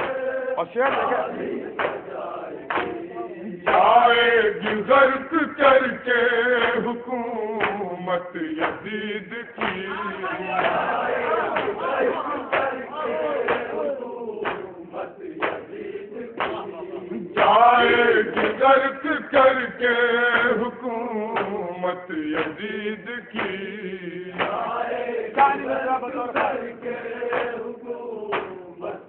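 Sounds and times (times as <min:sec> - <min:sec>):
evenly spaced chest-beating strokes: 0:00.0 - 0:29.0
men chanting a lament: 0:00.0 - 0:29.0.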